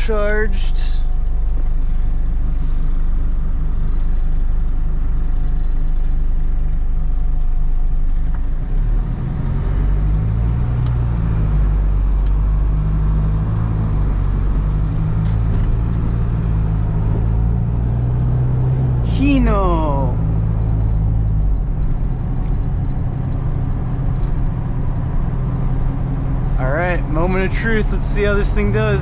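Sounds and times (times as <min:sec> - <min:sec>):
truck diesel engine hum: 0:00.0 - 0:29.0.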